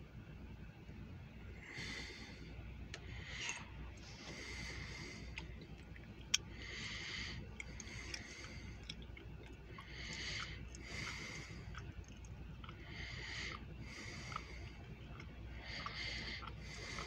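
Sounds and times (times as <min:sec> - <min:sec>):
faint low rumble: 0:00.0 - 0:17.0
person breathing: 0:01.5 - 0:17.0.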